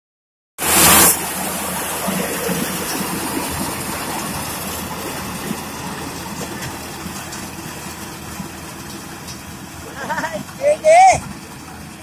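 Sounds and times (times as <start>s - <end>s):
tractor diesel engine under load: 0.6s - 12.0s.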